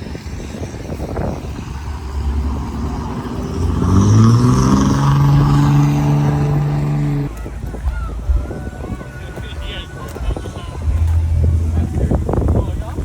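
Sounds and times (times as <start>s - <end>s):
truck engine revving: 0.0s - 8.4s, 9.7s - 13.0s.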